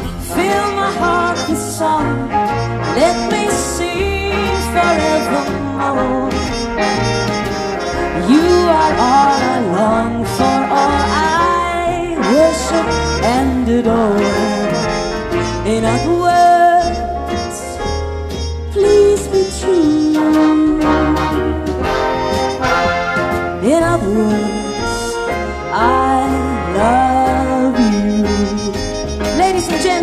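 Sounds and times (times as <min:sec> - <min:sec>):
big band playing jazz: 0:00.0 - 0:30.0
brass section sliding notes: 0:00.1 - 0:30.0.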